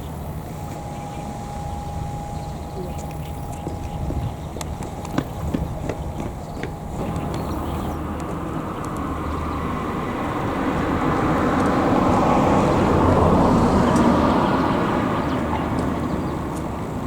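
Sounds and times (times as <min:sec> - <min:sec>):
vehicle passing by: 0:02.4 - 0:17.0.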